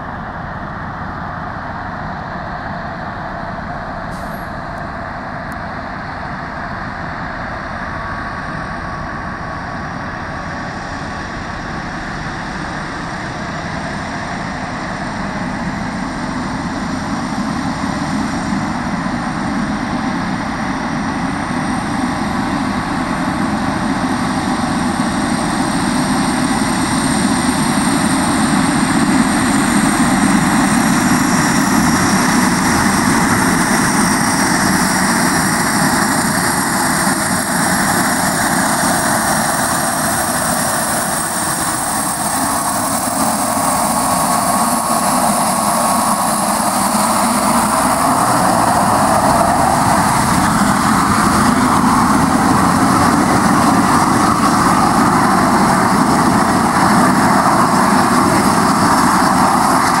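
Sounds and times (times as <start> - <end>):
turboprop aircraft taxiing: 0.0 - 60.0.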